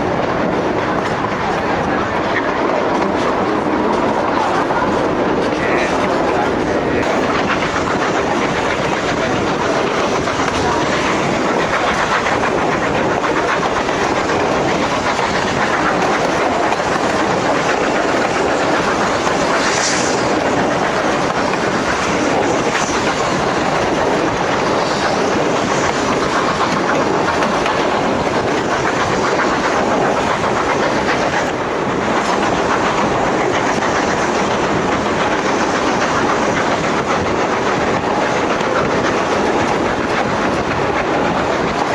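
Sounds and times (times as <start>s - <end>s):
train wheels clattering on rail: 0.0s - 41.9s.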